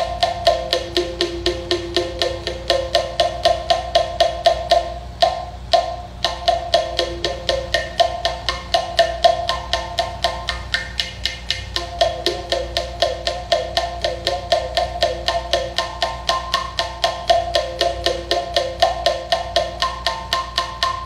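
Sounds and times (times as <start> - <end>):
mouth bow plucked: 0.0 - 21.0.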